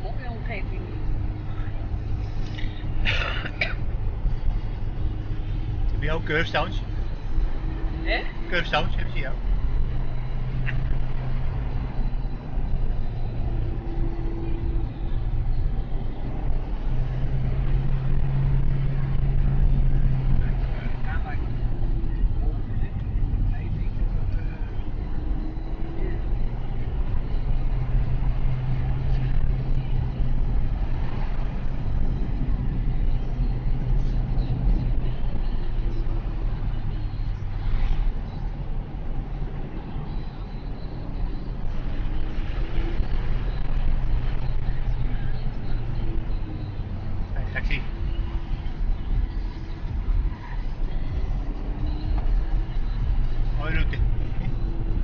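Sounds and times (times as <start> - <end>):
car engine hum: 0.0 - 55.0
tyre and road noise: 0.0 - 55.0
van passing: 0.0 - 55.0.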